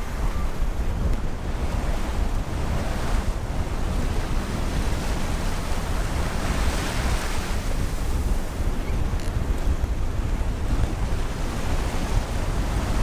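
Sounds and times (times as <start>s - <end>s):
rushing seawater: 0.0s - 13.0s
wind buffeting microphone: 0.0s - 13.0s.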